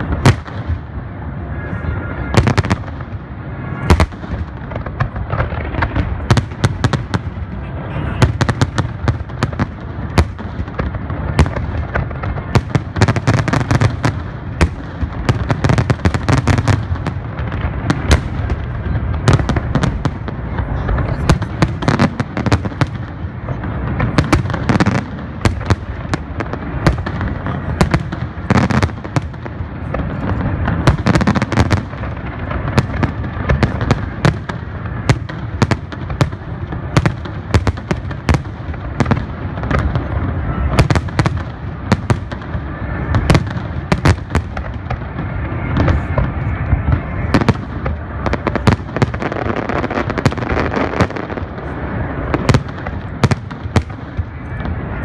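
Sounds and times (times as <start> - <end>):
fireworks cracks and booms: 0.0 - 55.0.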